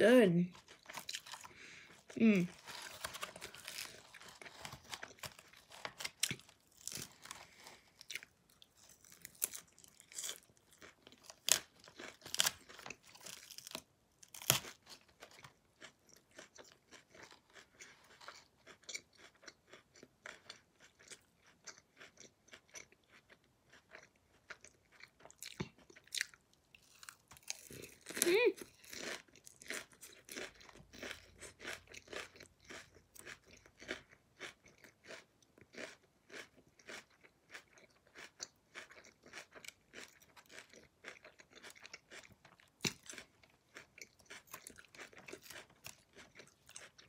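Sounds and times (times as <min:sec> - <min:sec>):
chewing crunchy lettuce: 0:00.4 - 0:47.0.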